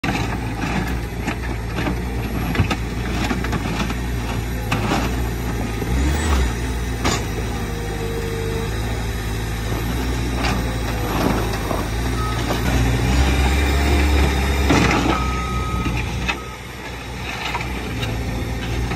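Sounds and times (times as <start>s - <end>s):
asphalt chunks clunking and scraping: 0.0s - 18.9s
loader engine running: 0.0s - 18.9s.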